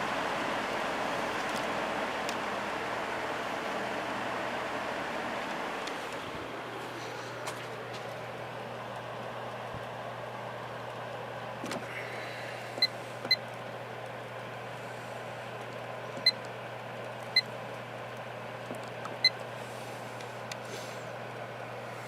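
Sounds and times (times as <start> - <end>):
fan motor hum and rushing air: 0.0 - 22.0.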